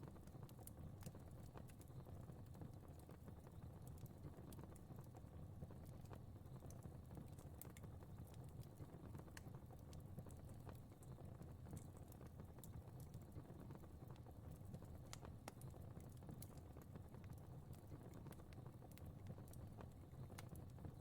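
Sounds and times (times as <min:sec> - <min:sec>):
faint fireplace fire crackling: 0:00.0 - 0:21.0.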